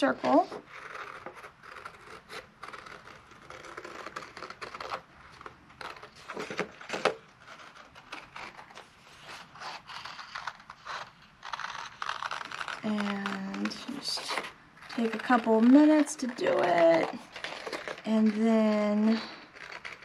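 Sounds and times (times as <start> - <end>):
cardstock rubbing and scraping: 0.0 - 20.0
scissors snipping paper: 0.0 - 20.0.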